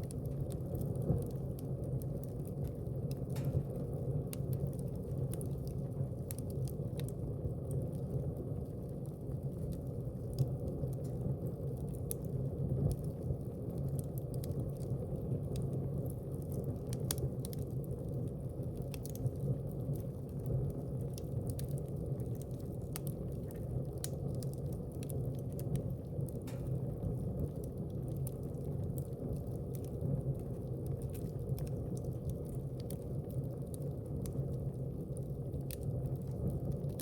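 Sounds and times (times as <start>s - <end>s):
burning logs crackling and popping: 0.0s - 37.0s.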